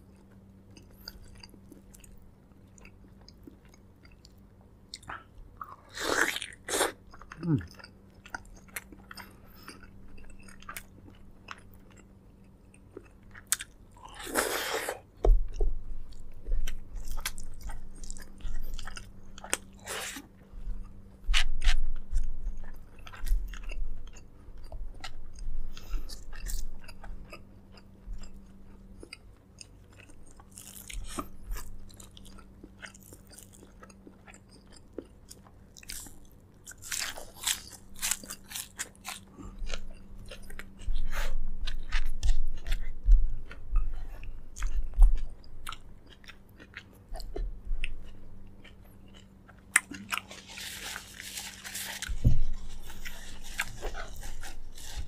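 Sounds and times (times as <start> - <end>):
faint steady hum: 0.0 - 55.0
close chewing and biting: 5.0 - 55.0.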